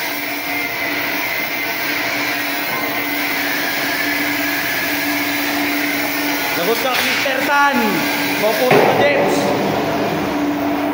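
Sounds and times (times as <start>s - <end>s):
machine motor whirring: 0.0s - 10.9s.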